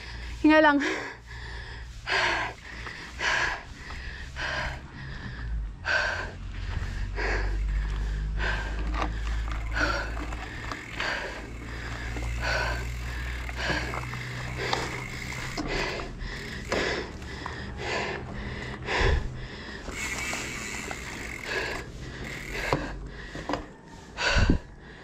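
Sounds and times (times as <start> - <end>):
low steady rumble: 0.0 - 23.3
person panting hard: 0.0 - 25.0.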